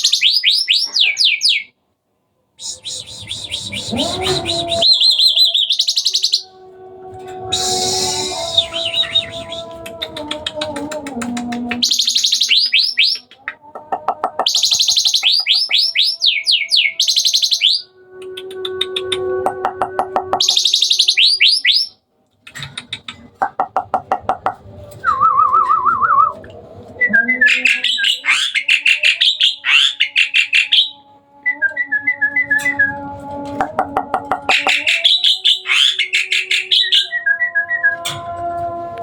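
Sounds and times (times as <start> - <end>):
starling singing: 0.0 - 1.8, 2.6 - 22.0, 22.8 - 38.8.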